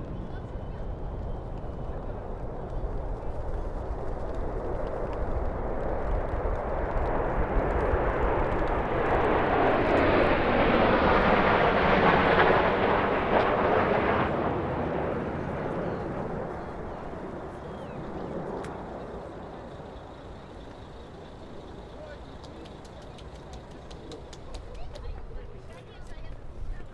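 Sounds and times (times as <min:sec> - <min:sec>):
aircraft flying overhead: 0:00.0 - 0:26.9.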